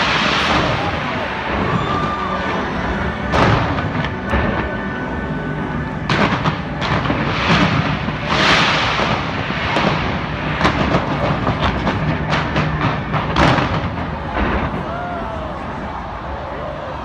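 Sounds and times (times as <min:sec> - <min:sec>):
fireworks crackling: 0:00.0 - 0:15.1
fireworks bangs: 0:00.0 - 0:16.2.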